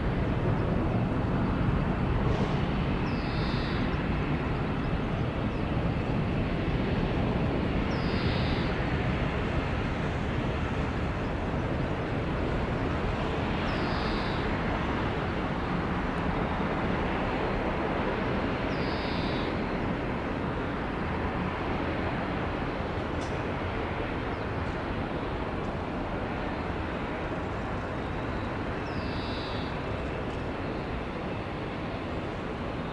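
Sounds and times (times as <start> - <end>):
jet engine roar: 0.0 - 32.9.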